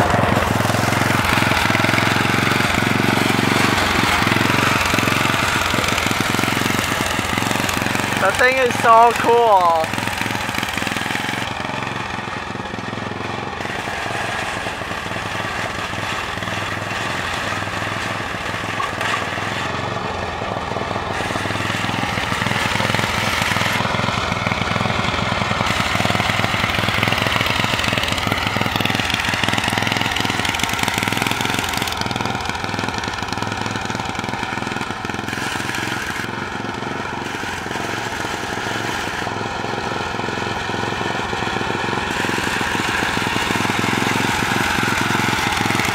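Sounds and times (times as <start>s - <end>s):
lawn mower engine passing: 0.0s - 45.9s.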